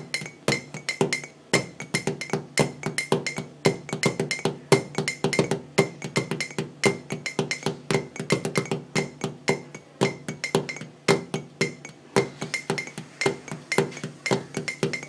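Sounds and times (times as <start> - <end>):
music of bright plucked notes: 0.0 - 15.0.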